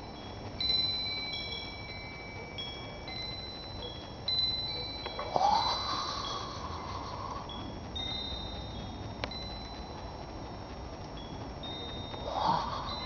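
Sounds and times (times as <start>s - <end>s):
wind chimes ringing: 0.0s - 13.0s.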